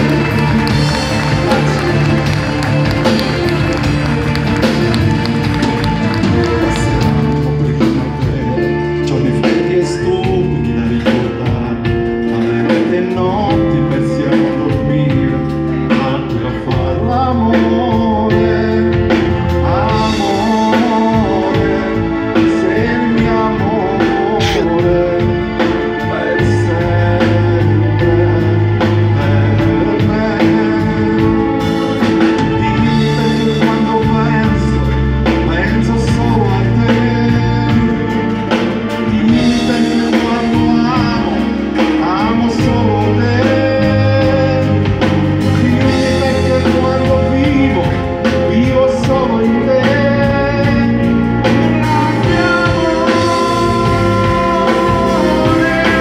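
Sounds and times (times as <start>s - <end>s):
drum kit: 0.0s - 56.0s
electric guitar: 0.0s - 56.0s
man singing through microphone: 0.0s - 56.0s.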